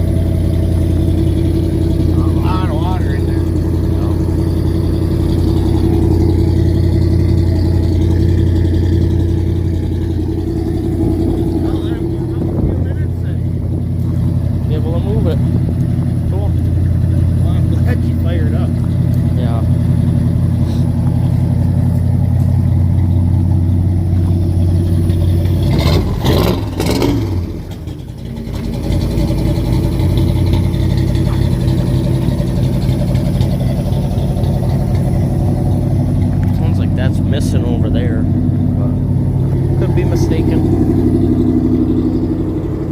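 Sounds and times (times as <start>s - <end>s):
car engine running rough: 0.0s - 42.9s.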